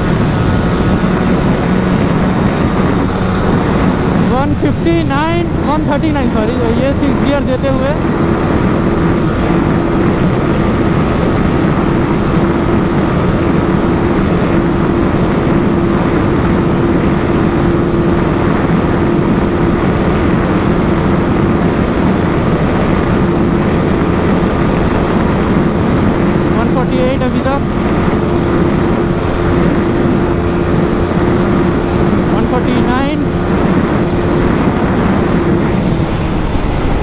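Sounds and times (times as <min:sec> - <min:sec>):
motorcycle engine droning: 0:00.0 - 0:37.0
wind rushing on microphone: 0:00.0 - 0:37.0.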